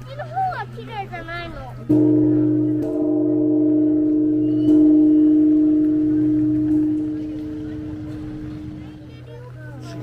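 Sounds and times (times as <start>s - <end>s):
large bell ringing: 1.9s - 10.0s.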